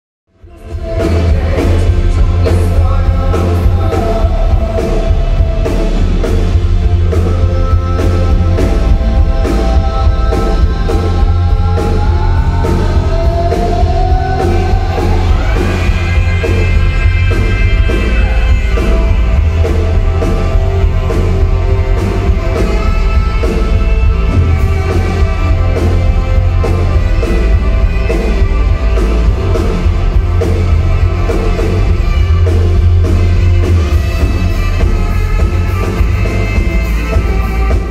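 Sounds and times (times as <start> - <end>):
live rock band playing: 0.3 - 37.9
person singing: 0.4 - 37.9.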